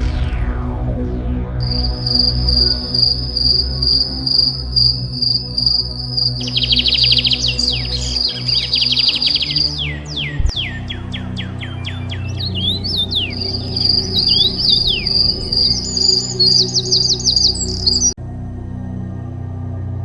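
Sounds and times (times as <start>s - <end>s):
low steady drone: 0.0s - 20.0s
quick falling bird chirps: 1.6s - 18.1s
fast chirping pulses: 1.6s - 18.2s
high insect trill: 1.6s - 18.2s.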